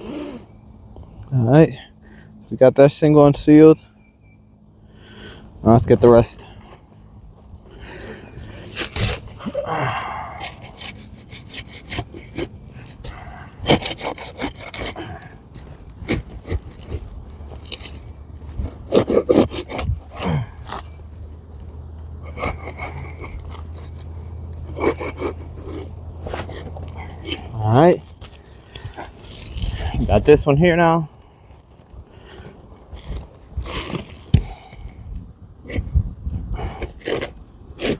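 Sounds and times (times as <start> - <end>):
roofing bar scraping under shingles: 5.2 - 37.9.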